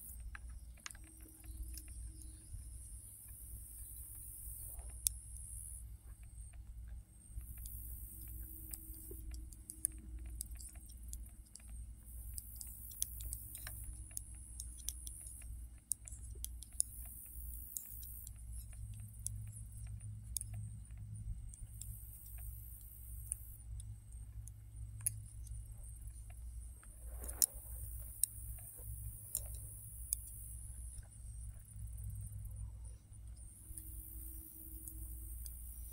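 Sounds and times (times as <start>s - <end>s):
knitting needles clicking: 0.0s - 35.9s
steady low rumble: 0.0s - 35.9s.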